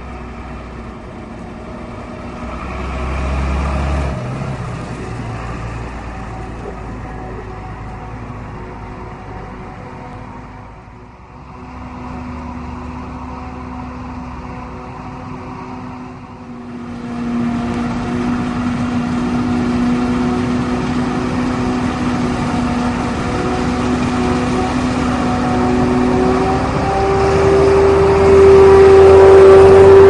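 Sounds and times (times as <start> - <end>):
forage harvester running: 0.0 - 30.0.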